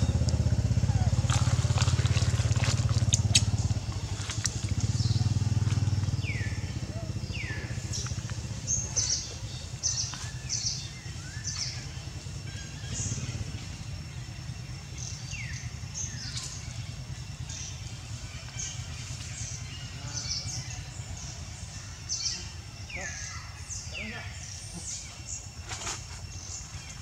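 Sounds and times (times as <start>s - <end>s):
birds chirping: 0.0s - 27.0s
low engine hum: 0.0s - 27.0s.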